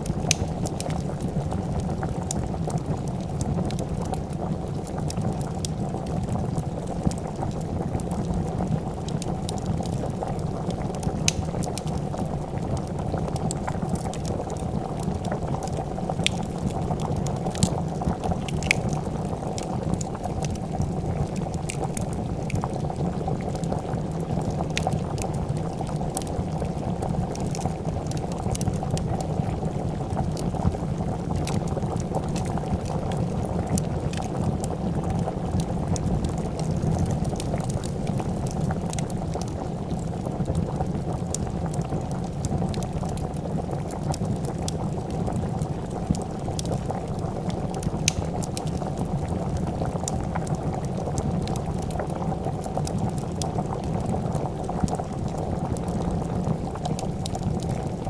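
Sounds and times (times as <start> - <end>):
soup bubbling in pot: 0.0 - 58.0
wood fire crackling: 0.0 - 58.0.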